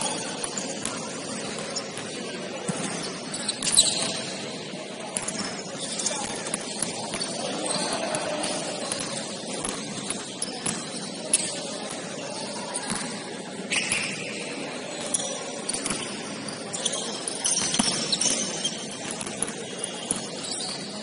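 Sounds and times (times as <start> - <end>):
sneaker squeaks on floor: 0.0 - 4.6, 5.2 - 21.0
steady hall noise: 0.0 - 21.0.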